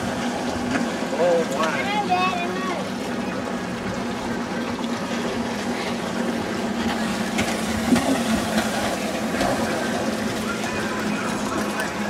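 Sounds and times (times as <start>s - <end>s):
water sloshing against hull: 0.0s - 12.0s.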